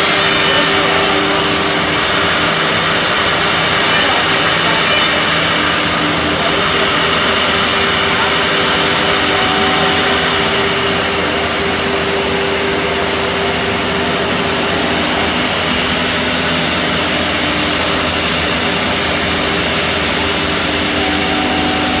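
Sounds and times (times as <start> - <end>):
router spindles whining: 0.0 - 22.0.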